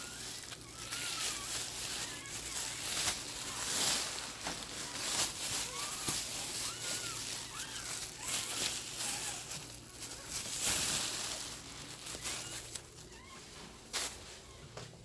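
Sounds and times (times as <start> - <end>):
puppies squeaking and whimpering: 0.0 - 13.8
rustling and shuffling: 0.0 - 15.0.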